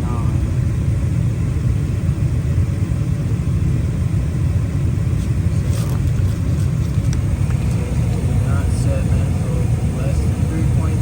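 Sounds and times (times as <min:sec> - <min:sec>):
gas furnace rumbling: 0:00.0 - 0:11.0.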